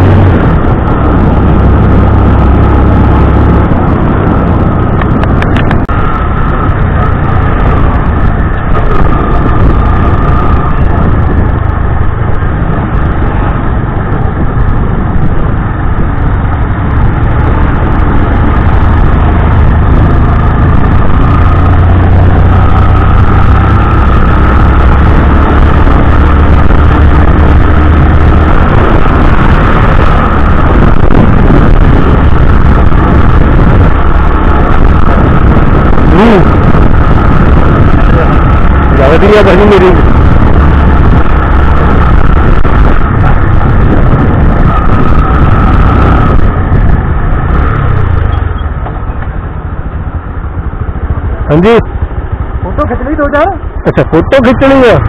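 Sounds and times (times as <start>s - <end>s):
motorcycle engine: 0.0s - 55.0s
wind rushing on microphone: 0.0s - 55.0s.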